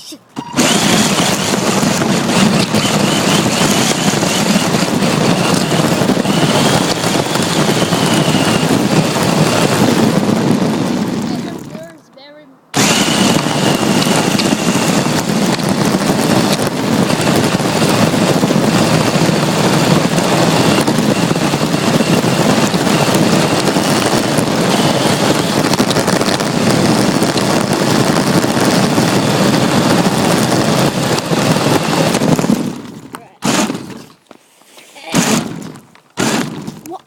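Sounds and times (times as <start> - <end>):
rc car drivetrain rush and rattle: 0.4 - 12.0, 12.7 - 34.2, 35.0 - 37.0.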